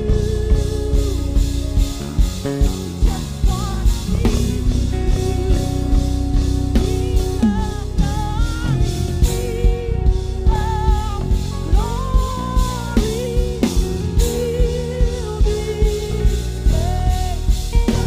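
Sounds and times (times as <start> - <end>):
drum kit steady beat: 0.0 - 18.0
guitar: 0.0 - 18.0
wavering lead melody: 0.0 - 18.0.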